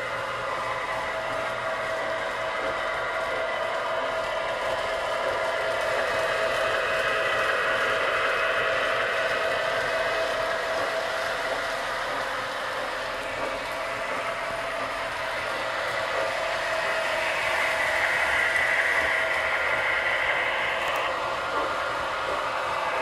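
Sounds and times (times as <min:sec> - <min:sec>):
model train wheels whirring and rattling: 0:00.0 - 0:23.0
steady hum: 0:00.0 - 0:23.0.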